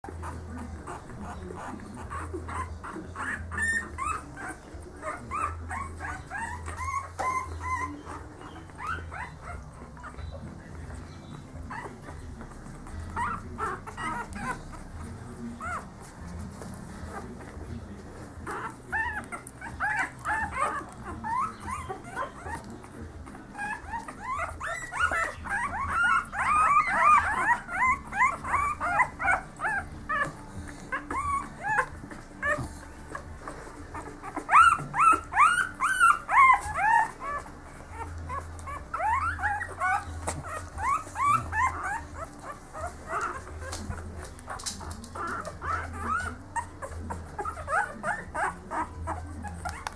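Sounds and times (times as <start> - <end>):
puppies squeaking and whimpering: 0.0 - 49.9.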